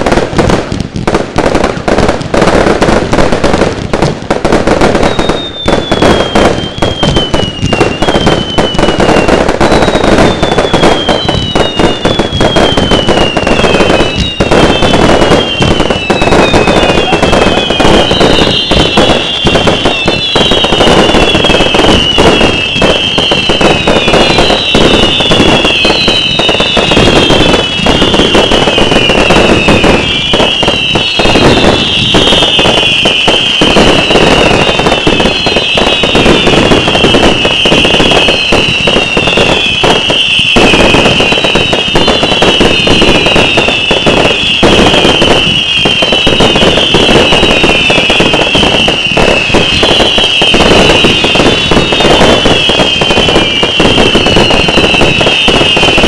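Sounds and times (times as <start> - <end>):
firework crackling and bangs: 0.0 - 56.0
firework whistles: 0.0 - 56.0.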